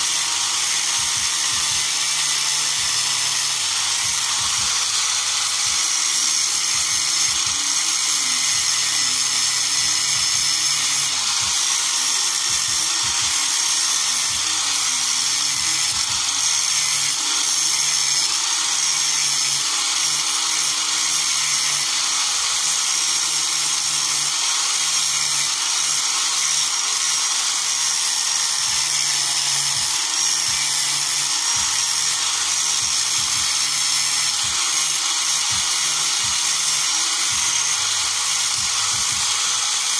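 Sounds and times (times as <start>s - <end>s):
angle grinder sanding metal: 0.0s - 39.9s.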